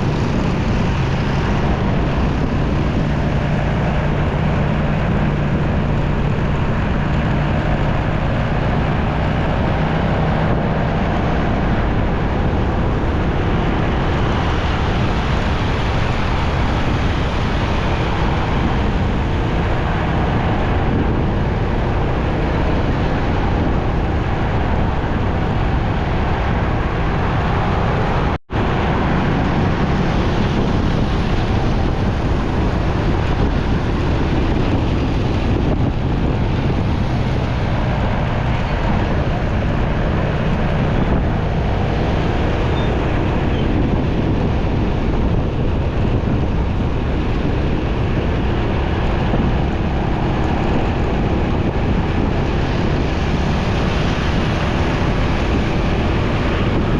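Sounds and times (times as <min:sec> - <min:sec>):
motorcycle engine: 0:00.0 - 0:56.9
road traffic: 0:00.0 - 0:56.9
wind buffeting microphone: 0:00.0 - 0:56.9.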